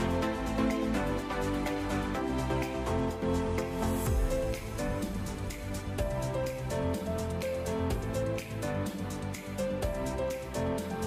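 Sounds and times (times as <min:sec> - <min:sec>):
instrumental music with light beat: 0:00.0 - 0:11.0.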